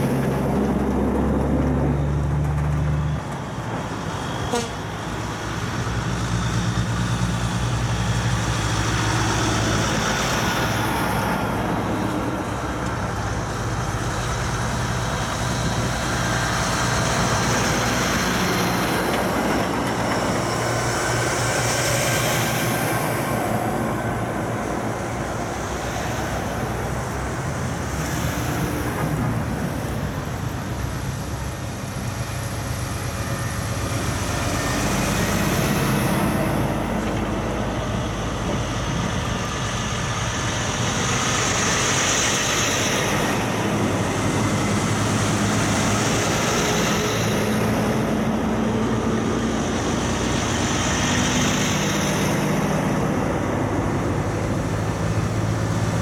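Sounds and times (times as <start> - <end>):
diesel trucks driving past: 0.0 - 56.0.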